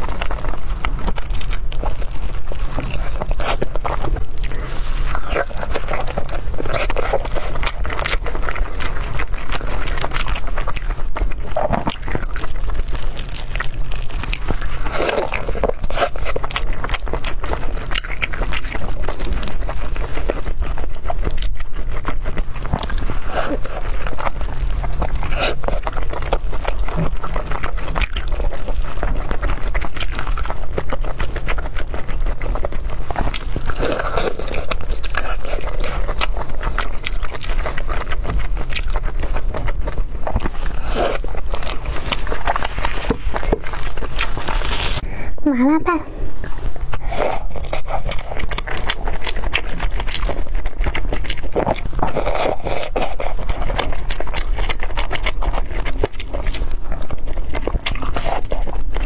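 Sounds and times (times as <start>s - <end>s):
wet chewing and smacking: 0.0s - 45.1s, 46.3s - 59.0s
steady low hum: 0.0s - 59.0s.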